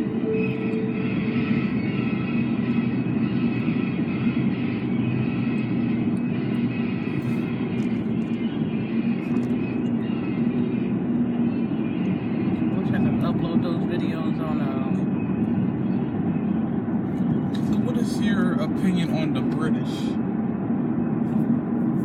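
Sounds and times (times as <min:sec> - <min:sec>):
vehicle road and engine rumble: 0:00.0 - 0:22.0.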